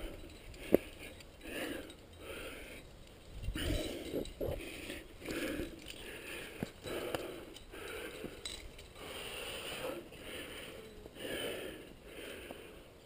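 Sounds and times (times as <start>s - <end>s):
heavy breathing: 0.0s - 13.0s.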